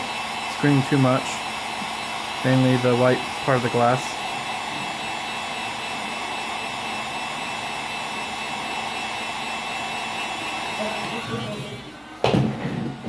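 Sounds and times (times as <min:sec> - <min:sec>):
heat gun blowing air: 0:00.0 - 0:12.1.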